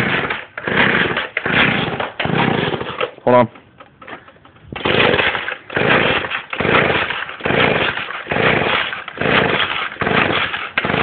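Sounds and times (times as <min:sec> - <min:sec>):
chainsaw engine being cranked: 0:00.0 - 0:11.0.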